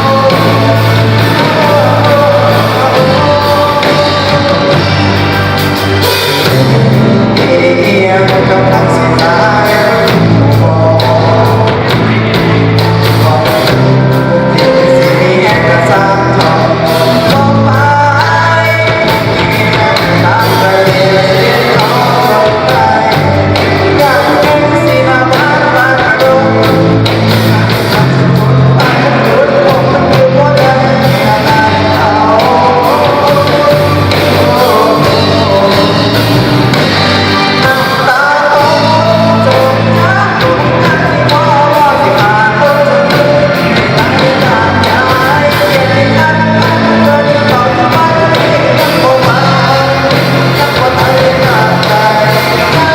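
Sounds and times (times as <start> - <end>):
lead vocal singing: 0.0 - 52.9
rock band playing: 0.0 - 52.9
steady bass line: 0.0 - 52.9.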